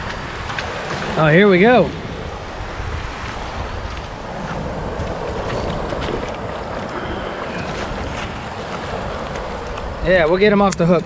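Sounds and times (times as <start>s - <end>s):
surf washing up beach: 0.0s - 11.0s
wind buffeting microphone: 0.0s - 11.0s.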